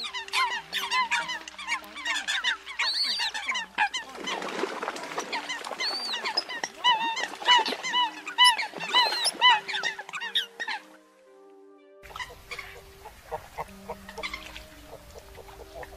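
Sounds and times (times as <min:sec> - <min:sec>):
birds splashing on water: 0:00.0 - 0:11.0, 0:12.0 - 0:15.9
coots calling: 0:00.0 - 0:11.2, 0:12.0 - 0:15.9.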